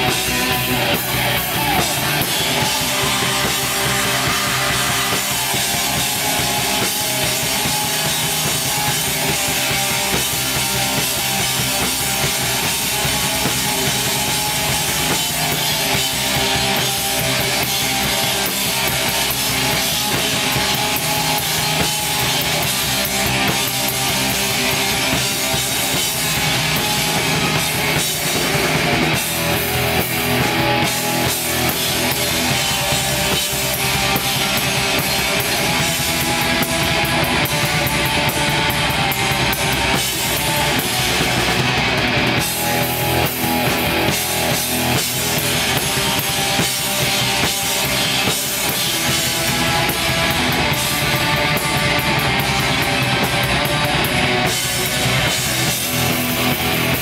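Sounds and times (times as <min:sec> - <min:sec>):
black metal band playing live: 0:00.0 - 0:57.0.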